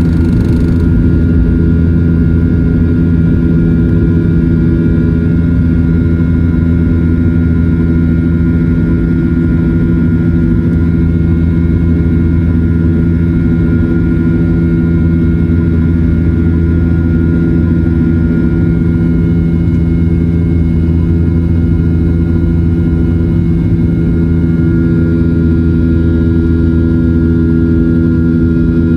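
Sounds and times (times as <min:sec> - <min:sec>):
airplane engine drone in cabin: 0:00.0 - 0:28.9.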